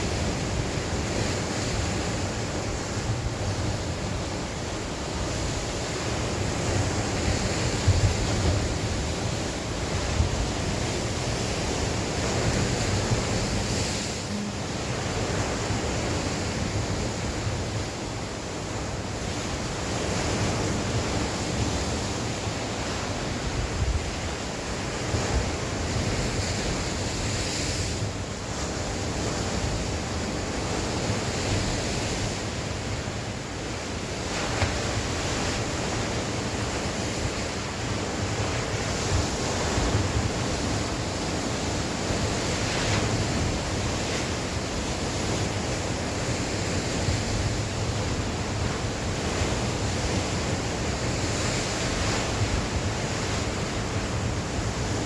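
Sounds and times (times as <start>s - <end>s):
sea waves washing on shore: 0.0s - 55.0s
wind rumbling on microphone: 0.0s - 55.0s.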